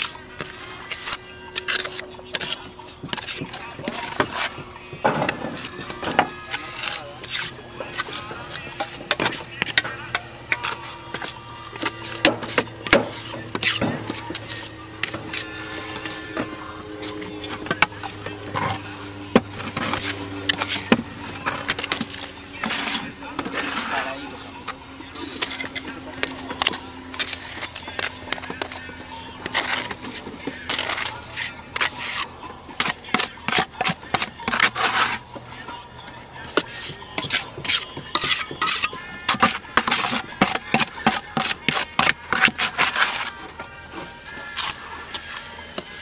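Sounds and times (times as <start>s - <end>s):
trowel scraping mortar on tiles: 0.0s - 16.4s, 17.0s - 24.6s, 25.2s - 35.3s, 36.5s - 43.5s, 44.4s - 46.0s
steady hum: 0.0s - 46.0s.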